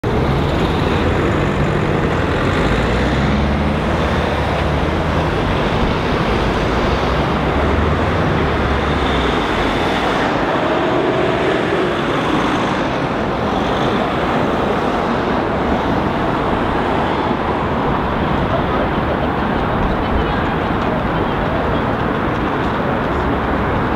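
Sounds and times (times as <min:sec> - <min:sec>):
cars driving past: 0:00.0 - 0:23.9.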